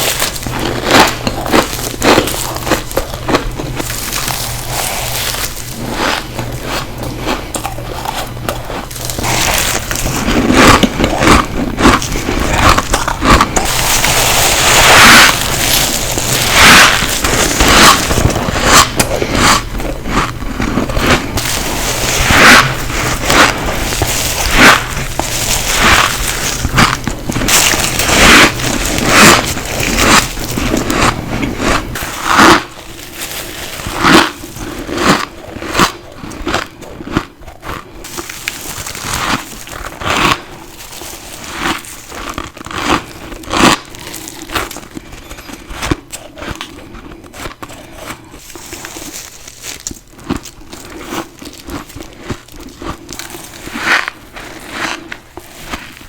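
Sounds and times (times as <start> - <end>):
crackling chewing: 0.0 - 56.0
ice crunching bites: 0.0 - 56.0.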